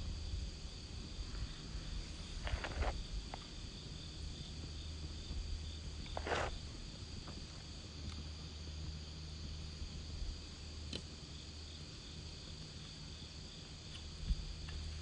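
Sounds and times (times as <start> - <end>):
insects chirring: 0.0 - 15.0
campfire crackling: 0.2 - 15.0.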